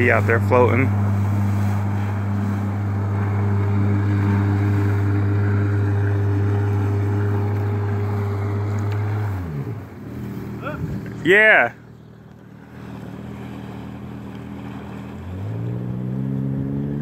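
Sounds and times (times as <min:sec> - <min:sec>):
jet ski engine running: 0:00.0 - 0:17.0.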